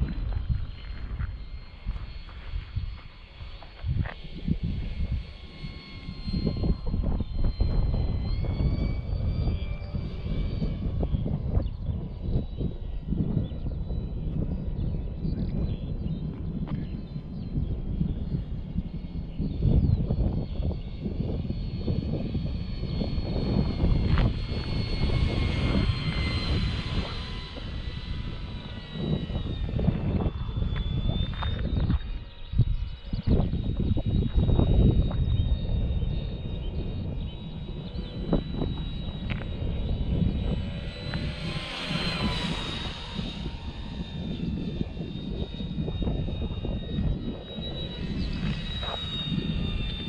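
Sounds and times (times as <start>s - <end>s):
heavy low rumble: 0.0s - 50.0s
model plane motor whine: 0.0s - 50.0s.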